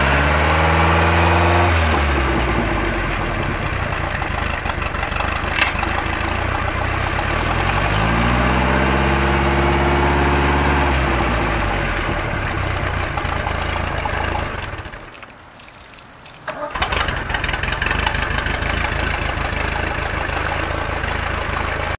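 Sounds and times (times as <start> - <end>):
boat engine revving: 0.0 - 15.1, 16.5 - 21.9
water splashing: 0.4 - 21.9.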